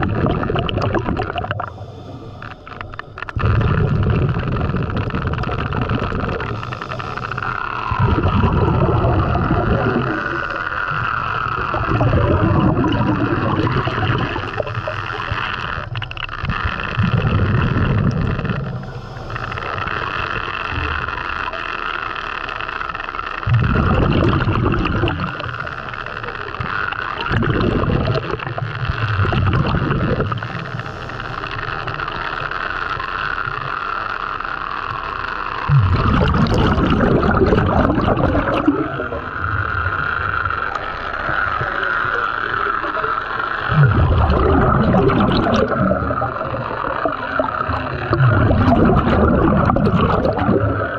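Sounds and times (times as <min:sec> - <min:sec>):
steady hum: 0:00.0 - 0:50.9
underwater bubbles rumbling: 0:00.0 - 0:50.9.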